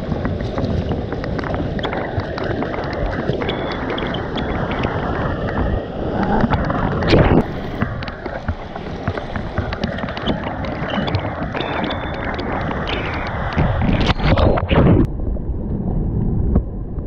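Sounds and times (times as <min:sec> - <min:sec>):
water rushing against surfboard: 0:00.0 - 0:15.1
wind buffeting microphone: 0:00.0 - 0:17.0.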